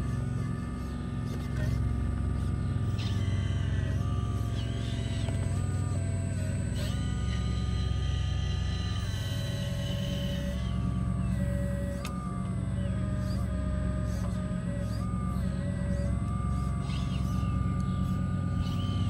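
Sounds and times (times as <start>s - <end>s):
motor and hydraulic pump whine: 0.0s - 19.0s.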